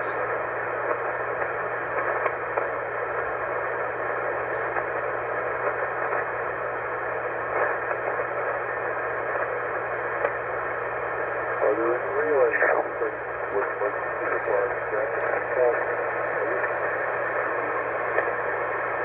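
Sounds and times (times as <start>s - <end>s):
faint low hum: 0.0s - 19.0s
radio static: 0.0s - 19.0s.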